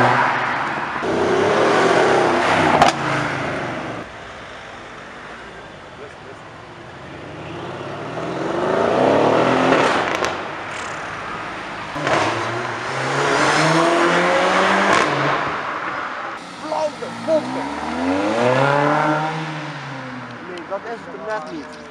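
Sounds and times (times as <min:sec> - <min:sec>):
cars accelerating hard: 0:00.0 - 0:04.1, 0:07.2 - 0:21.9.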